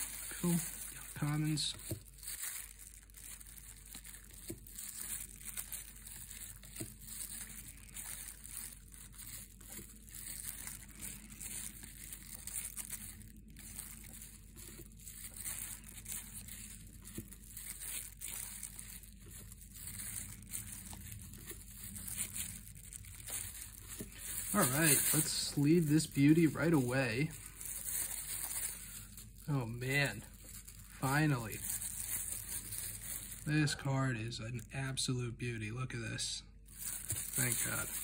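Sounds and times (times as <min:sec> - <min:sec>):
cards rustling and clicking: 0:00.0 - 0:33.3, 0:36.7 - 0:38.0
plastic glove crinkling: 0:00.0 - 0:35.0, 0:36.5 - 0:38.0.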